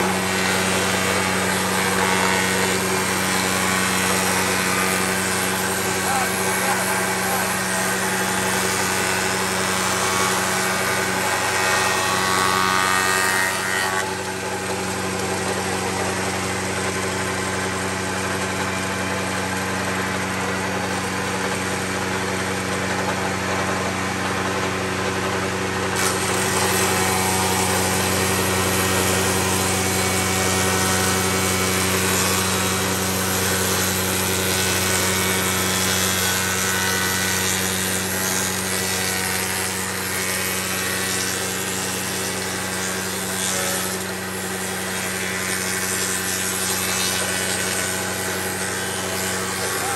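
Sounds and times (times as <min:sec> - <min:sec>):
cutter head cutting wood: 0:00.0 - 0:49.9
spindle moulder motor humming: 0:00.0 - 0:49.9.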